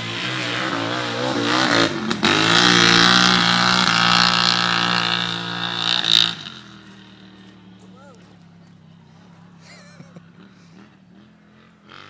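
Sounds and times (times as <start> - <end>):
atv engine revving hard: 0.0 - 7.9, 8.8 - 12.0.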